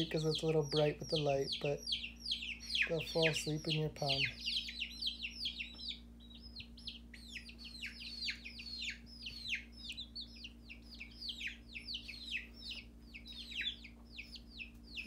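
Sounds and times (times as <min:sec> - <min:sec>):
baby chicks peeping: 0:00.0 - 0:15.0
faint low hum: 0:00.0 - 0:15.0.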